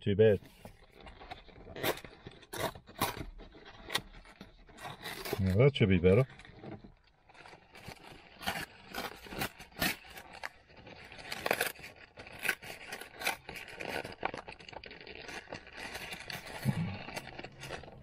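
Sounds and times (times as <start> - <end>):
paperboard box tearing: 0.2 - 18.0.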